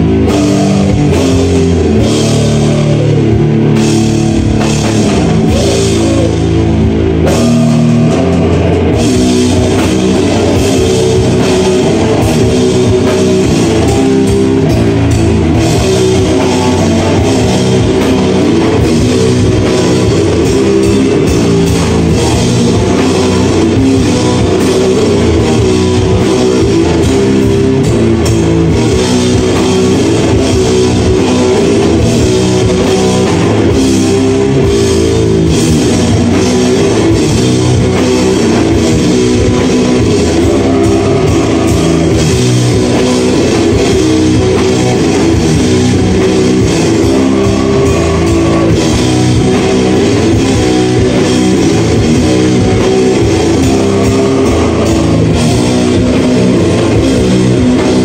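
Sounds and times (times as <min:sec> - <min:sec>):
bass guitar: 0:00.0 - 0:58.0
distorted electric guitar: 0:00.0 - 0:58.0
drum kit: 0:00.0 - 0:58.0.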